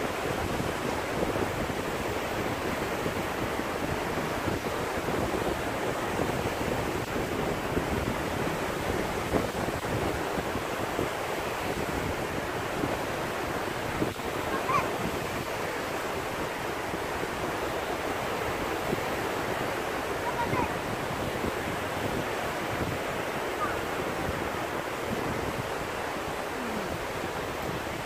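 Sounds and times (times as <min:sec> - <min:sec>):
waves breaking on shore: 0:00.0 - 0:28.0.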